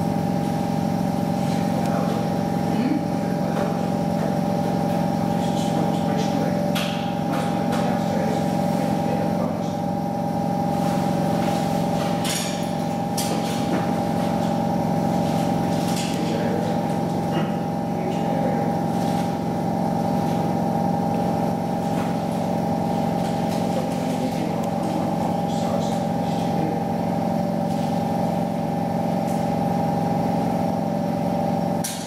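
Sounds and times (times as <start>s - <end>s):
muffled machine hum: 0.0s - 32.0s.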